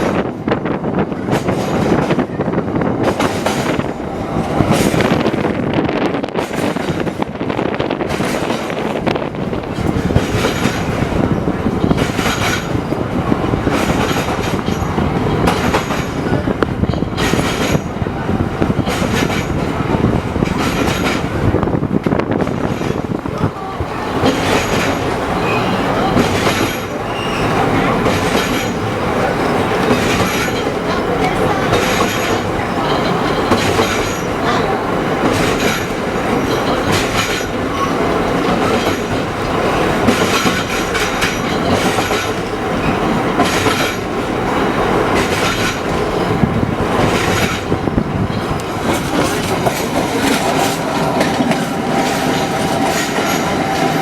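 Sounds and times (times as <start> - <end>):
tram rumbling along rails: 0.0 - 54.0
wheels clicking over rail joints: 7.9 - 54.0.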